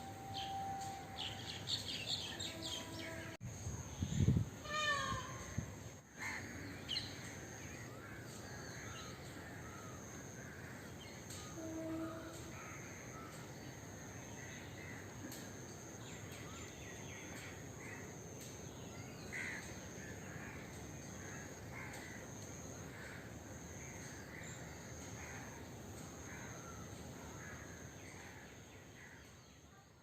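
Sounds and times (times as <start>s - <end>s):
background hum: 0.0s - 30.0s.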